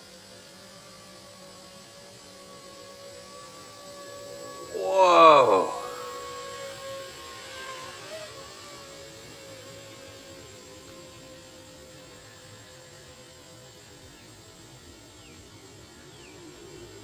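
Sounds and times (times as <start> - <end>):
distant model aircraft motor hum: 0.0 - 17.0
faint outdoor hiss: 0.0 - 17.0.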